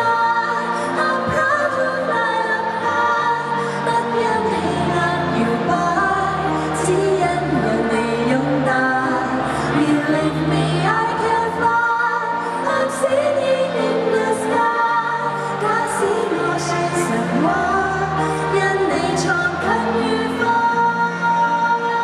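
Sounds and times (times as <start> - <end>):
pop music accompaniment: 0.0 - 22.0
woman singing into microphone: 0.0 - 22.0.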